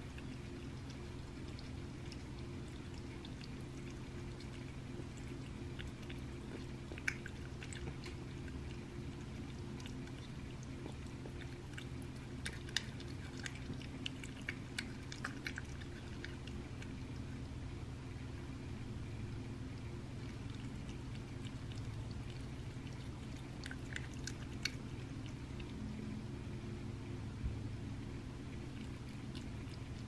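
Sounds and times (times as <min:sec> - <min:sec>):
cat chewing meat: 0:00.0 - 0:30.0.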